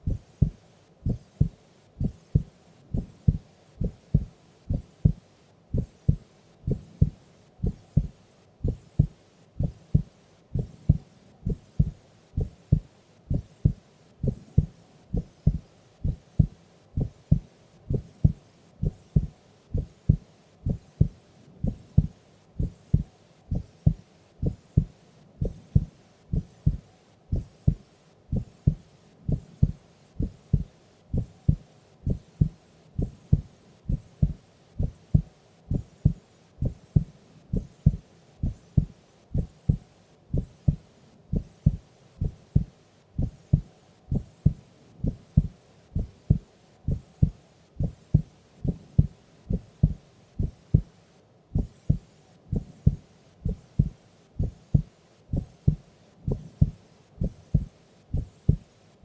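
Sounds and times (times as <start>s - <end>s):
slow heartbeat thumps: 0.1s - 5.2s, 5.8s - 50.9s, 51.6s - 58.7s.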